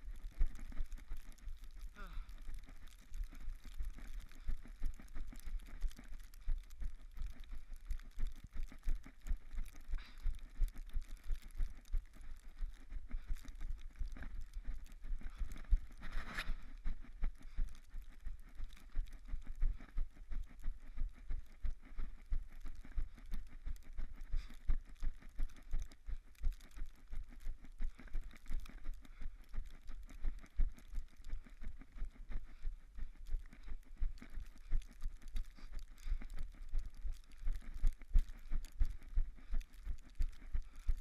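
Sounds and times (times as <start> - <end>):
rustle: 0.0 - 41.0.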